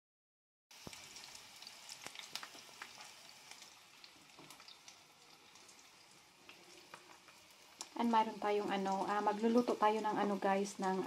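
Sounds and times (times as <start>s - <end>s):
onion sizzling in a frying pan: 0.7s - 11.0s.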